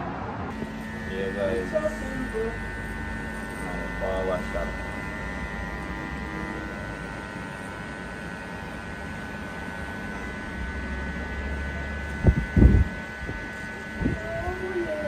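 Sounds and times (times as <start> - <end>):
electric hair clippers humming: 0.5 - 15.0.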